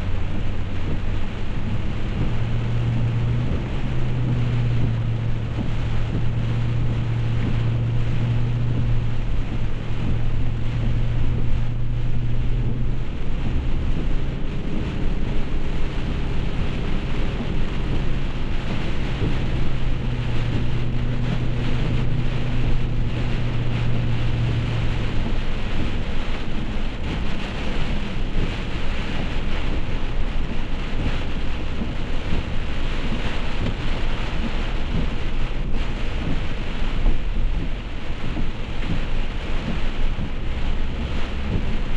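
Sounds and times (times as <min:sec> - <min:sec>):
car road noise: 0:00.0 - 0:41.9
heavy rain: 0:00.0 - 0:41.9
low hum from car: 0:00.0 - 0:41.9.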